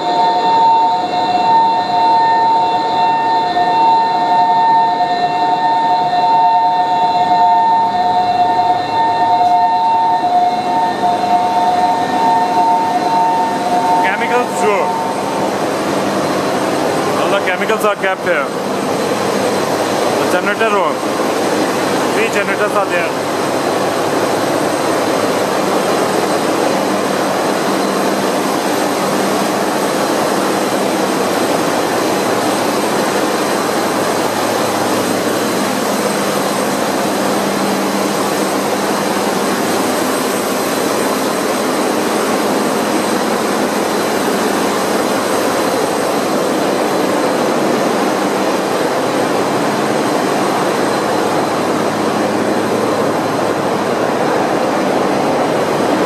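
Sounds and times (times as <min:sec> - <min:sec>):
diesel generator engines running: 0:00.0 - 0:56.0.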